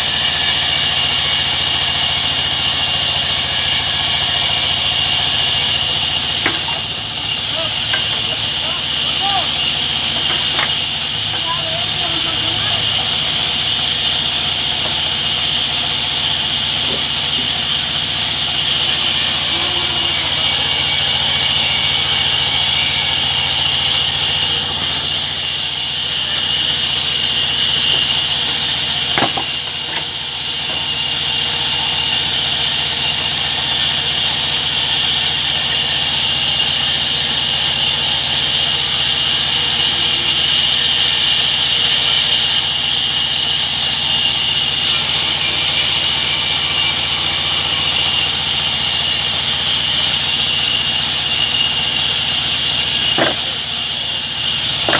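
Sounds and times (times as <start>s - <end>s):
sawmill saw hissing: 0.0s - 54.9s.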